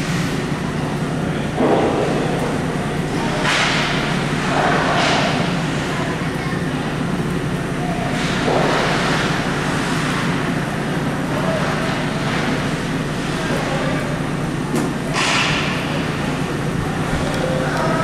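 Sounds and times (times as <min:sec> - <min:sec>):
low rink hum: 0:00.0 - 0:18.0.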